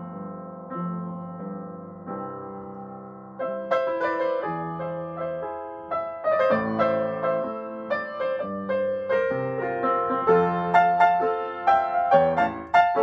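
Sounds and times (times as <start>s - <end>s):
upright piano playing: 0.0s - 13.0s.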